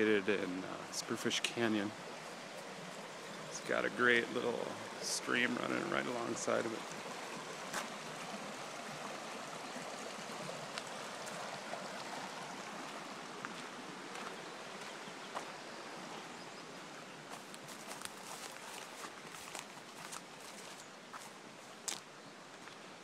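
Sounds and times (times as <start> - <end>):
stream flowing: 0.0 - 23.0.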